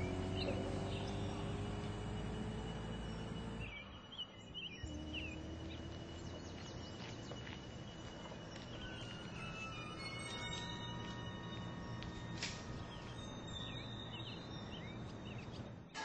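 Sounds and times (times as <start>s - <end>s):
bird chirps: 0.0s - 15.9s.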